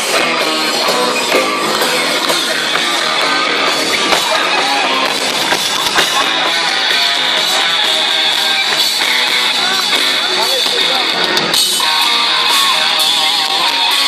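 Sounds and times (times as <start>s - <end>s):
electric guitars: 0.0s - 14.0s
rock band playing live: 0.0s - 14.0s.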